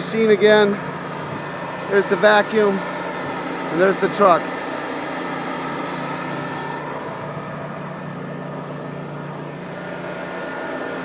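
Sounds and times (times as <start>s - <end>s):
machine running with steady hum: 0.0s - 11.0s.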